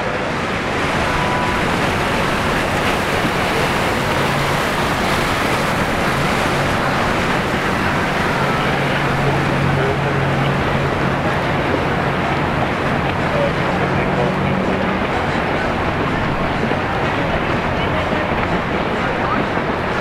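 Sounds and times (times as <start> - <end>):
boat engine idling: 0.0 - 20.0
rush of wind: 0.0 - 20.0
water noise: 0.0 - 20.0.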